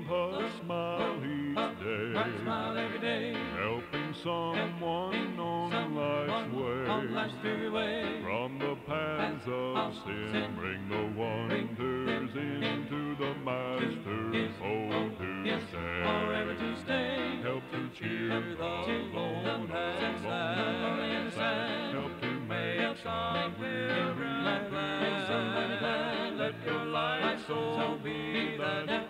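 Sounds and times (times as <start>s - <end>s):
people singing a hymn: 0.0s - 29.0s.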